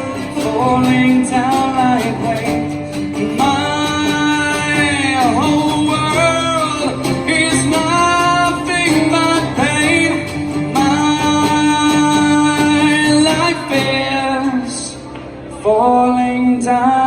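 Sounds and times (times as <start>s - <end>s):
acoustic instruments playing: 0.0s - 17.0s.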